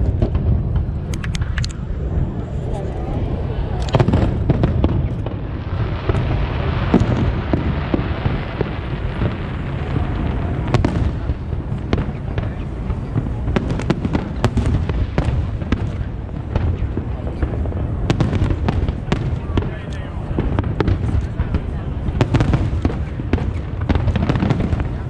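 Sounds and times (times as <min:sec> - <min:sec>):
firework bangs and crackles: 0:00.0 - 0:25.0
rumble of bursting fireworks: 0:00.0 - 0:25.0.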